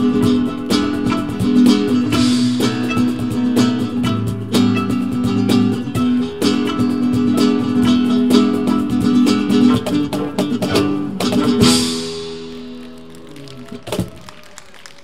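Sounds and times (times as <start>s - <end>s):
guitar-led live music: 0.0s - 15.0s.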